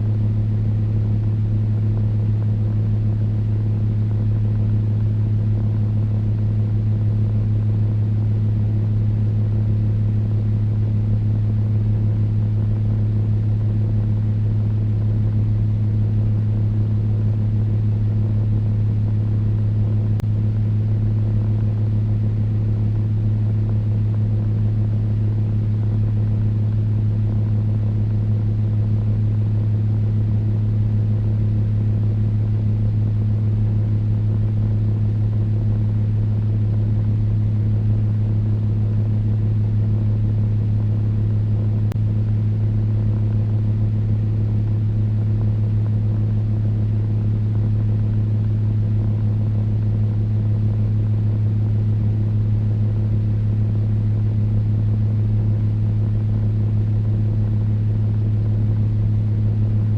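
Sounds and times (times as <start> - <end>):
electric fan humming: 0.0 - 59.9
rush of air from fan: 0.0 - 59.9.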